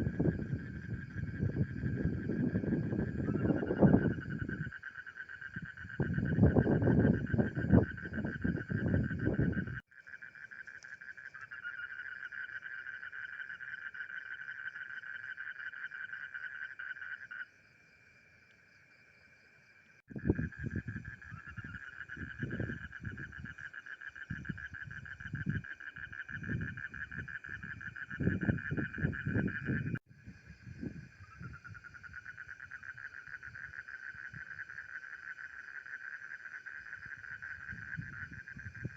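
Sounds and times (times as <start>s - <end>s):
frogs calling in pulsing trill: 0.0s - 38.9s.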